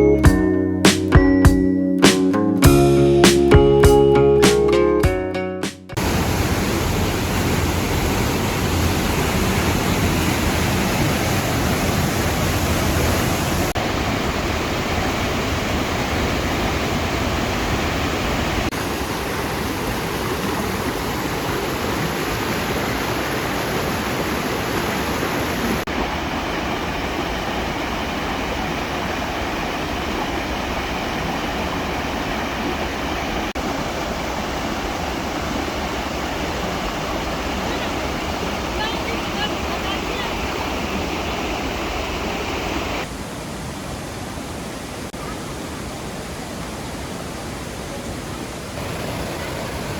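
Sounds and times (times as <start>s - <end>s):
waterfall rushing: 5.9s - 49.9s.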